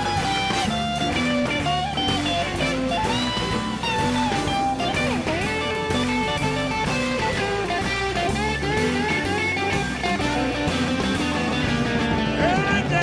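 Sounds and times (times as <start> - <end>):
bass notes: 0.0 - 13.0
drums: 0.0 - 13.0
electric guitar lead with bent notes: 0.0 - 13.0.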